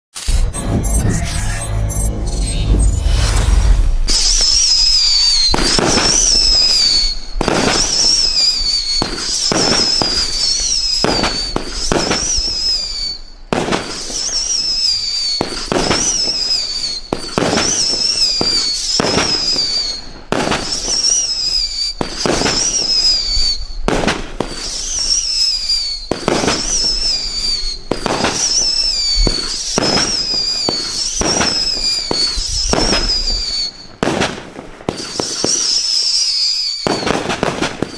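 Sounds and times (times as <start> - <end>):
firework whistles: 0.1 - 37.9
firework bangs and crackles: 2.7 - 37.9.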